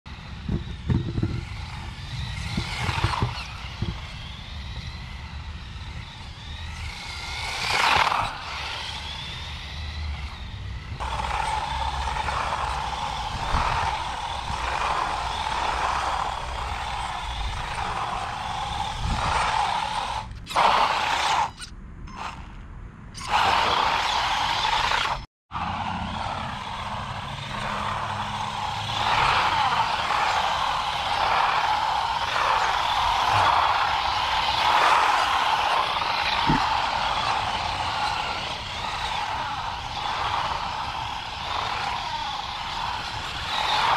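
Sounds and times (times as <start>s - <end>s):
toy truck motor whining: 0.1s - 22.6s, 23.2s - 43.9s
tyres scrubbing on asphalt: 0.2s - 21.6s, 23.2s - 43.9s.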